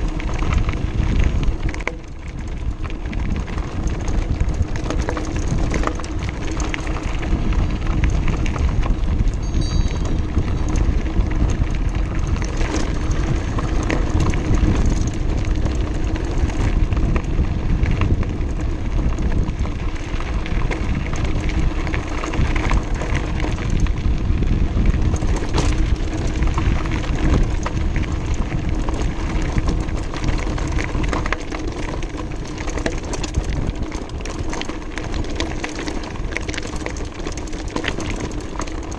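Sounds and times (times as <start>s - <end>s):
bike rattling: 0.0s - 38.9s
wind on microphone: 0.0s - 38.9s.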